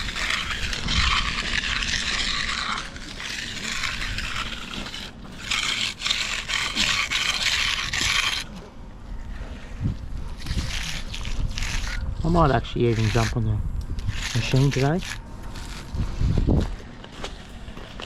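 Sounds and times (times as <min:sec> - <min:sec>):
float scraping across concrete: 0:00.0 - 0:18.0.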